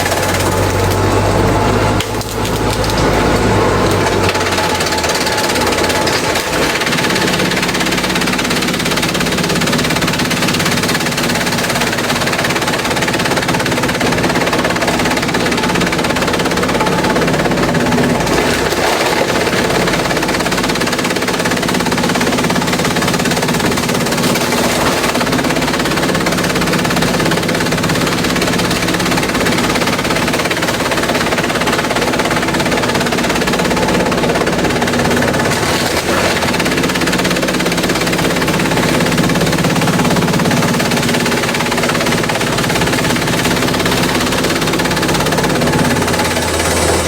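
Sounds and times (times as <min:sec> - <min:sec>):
bamboo being shredded: 0:00.0 - 0:47.0
machine hum: 0:00.0 - 0:47.0.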